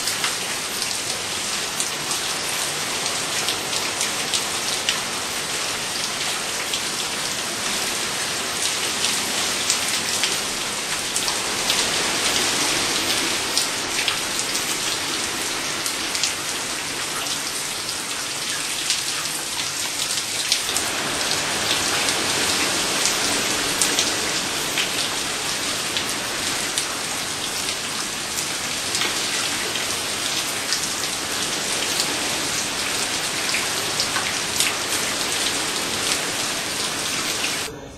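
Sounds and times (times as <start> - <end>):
heavy rain falling: 0.0 - 37.7
raindrops pattering on surfaces: 0.0 - 37.7.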